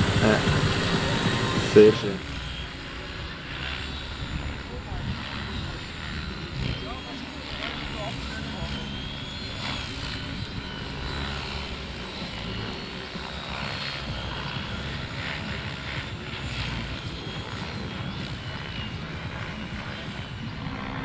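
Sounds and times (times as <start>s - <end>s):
model aircraft engine whine: 0.0s - 21.0s.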